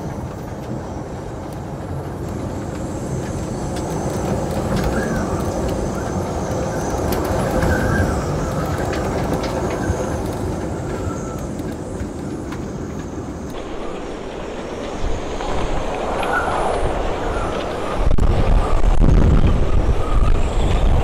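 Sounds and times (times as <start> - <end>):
storm wind rushing: 0.0 - 21.0
rigging whistling: 0.1 - 21.0.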